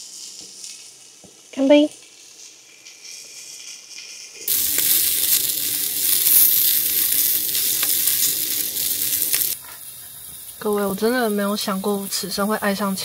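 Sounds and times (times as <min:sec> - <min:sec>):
peppers sizzling in a pan: 0:00.0 - 0:13.0.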